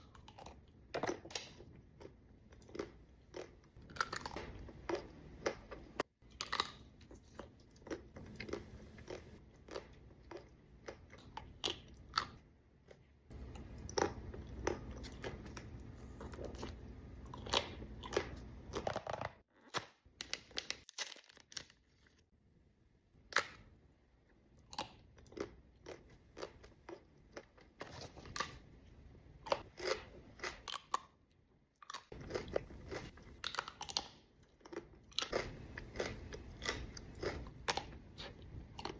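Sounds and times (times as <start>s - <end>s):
person chewing crunchy chocolates: 0.0s - 19.3s, 24.5s - 28.8s, 29.4s - 38.9s.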